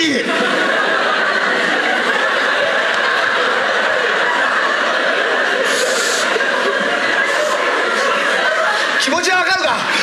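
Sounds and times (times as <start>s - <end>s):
audience laughing: 0.0s - 10.0s.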